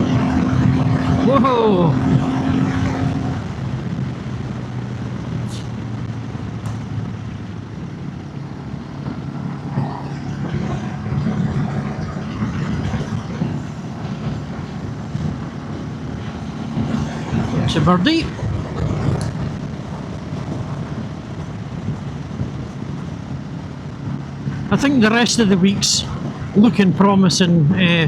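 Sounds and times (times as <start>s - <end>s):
motorcycle engine running: 0.0s - 28.0s
wind noise: 0.0s - 28.0s.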